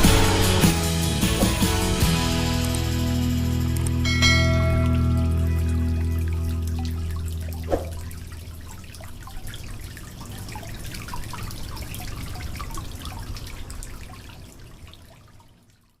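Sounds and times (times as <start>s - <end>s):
water trickling and splashing: 2.6s - 16.0s.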